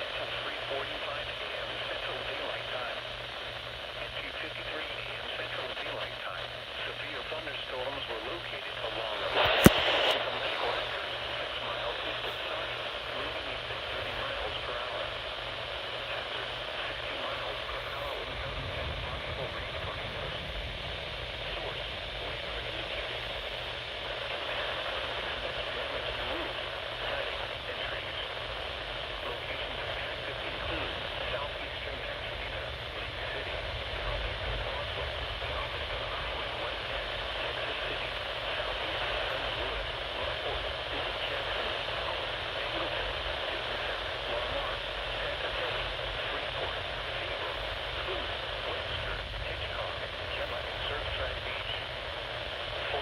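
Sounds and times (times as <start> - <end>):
faint voice: 0.0 - 3.1, 3.9 - 20.6, 21.2 - 23.4, 24.0 - 53.0
radio static hiss: 0.0 - 53.0.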